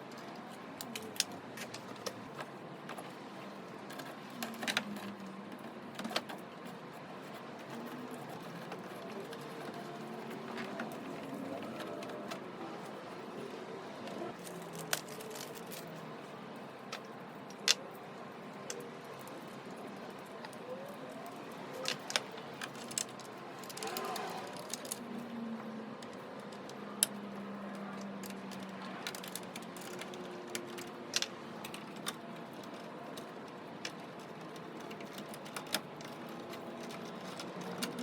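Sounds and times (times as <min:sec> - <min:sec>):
small clicks and rattles: 0:00.0 - 0:38.0.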